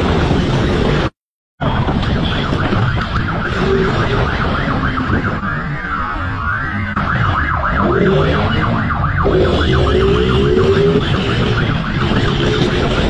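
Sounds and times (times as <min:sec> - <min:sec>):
siren warbling: 0:01.6 - 0:13.0.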